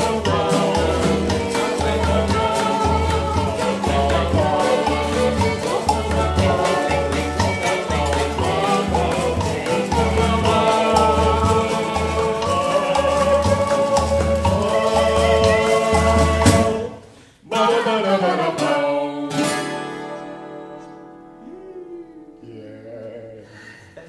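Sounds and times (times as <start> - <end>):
children's song by acoustic band: 0.0 - 22.6.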